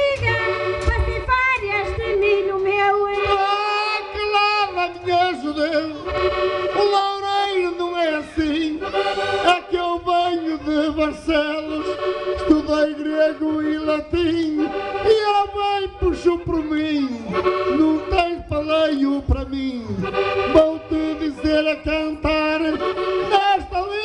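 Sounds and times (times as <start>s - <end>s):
concertina playing folk melody: 0.0s - 24.0s.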